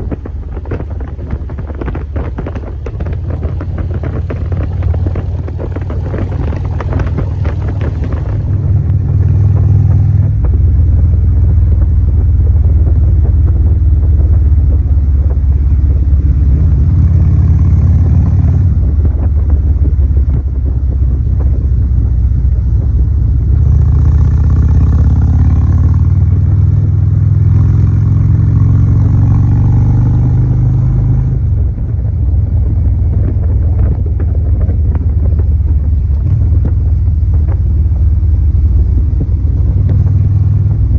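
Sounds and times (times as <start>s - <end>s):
deep car rumble: 0.0s - 40.9s.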